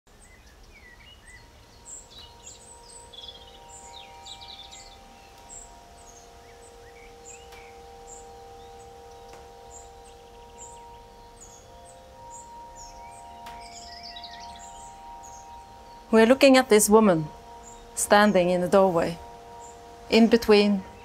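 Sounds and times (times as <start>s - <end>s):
small birds chirping: 0.1s - 21.0s
soft held chord: 0.6s - 21.0s.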